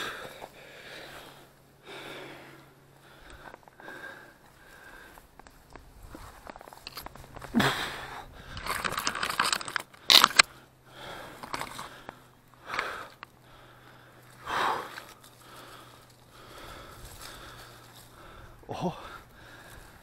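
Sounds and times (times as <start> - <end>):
twigs and leaves rustling: 2.9 - 20.0.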